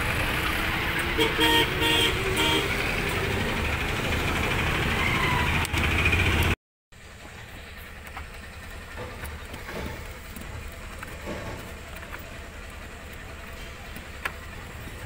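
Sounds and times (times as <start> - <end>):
traffic and vehicle engines: 0.0 - 15.0.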